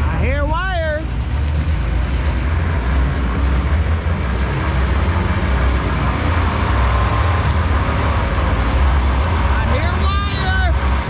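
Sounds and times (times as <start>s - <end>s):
car burnout engine and tyres: 0.0s - 11.0s.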